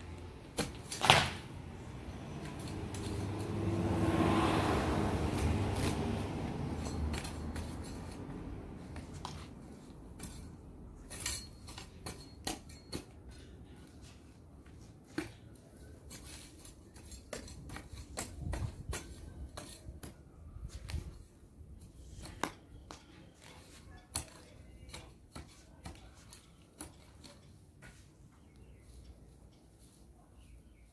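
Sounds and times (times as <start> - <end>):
vehicle rumble: 0.0 - 25.4.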